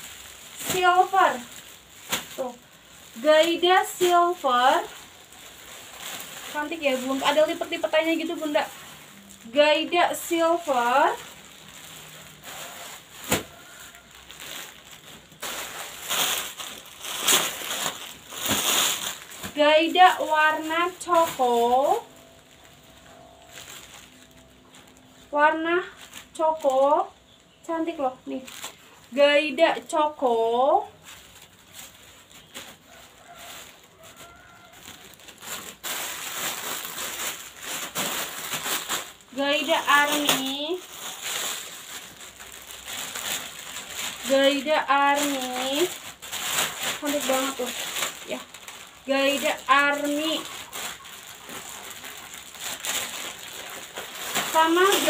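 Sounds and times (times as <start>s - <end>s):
cloth rustling: 0.0s - 26.9s, 30.2s - 55.0s
plastic bag crinkling: 0.0s - 55.0s.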